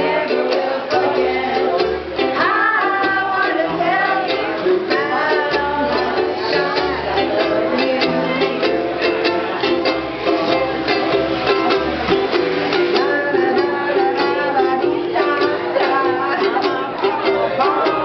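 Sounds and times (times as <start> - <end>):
person singing: 0.0 - 18.0
ukuleles strumming: 0.0 - 18.0.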